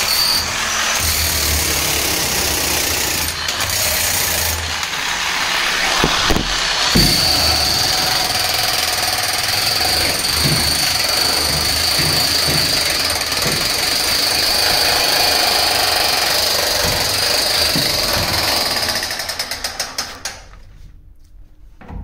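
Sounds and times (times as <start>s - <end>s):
demolition hammer chipping cement: 0.0s - 19.8s.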